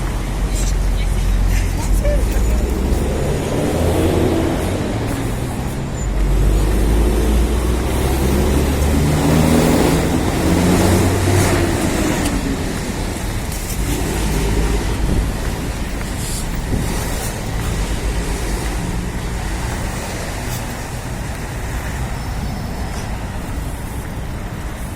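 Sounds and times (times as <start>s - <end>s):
road traffic passing: 0.0s - 24.9s.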